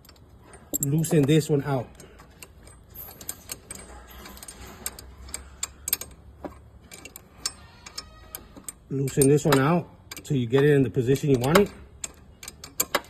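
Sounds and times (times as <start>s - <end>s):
tool clicking on metal bolt: 0.0s - 13.0s.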